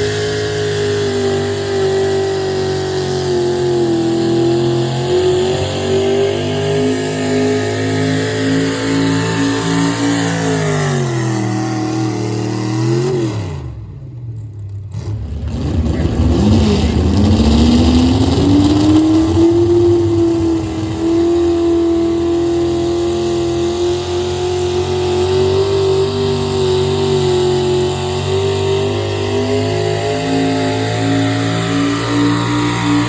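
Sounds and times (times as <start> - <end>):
engine revving under load: 0.0 - 33.0
engine winding down: 0.0 - 33.0.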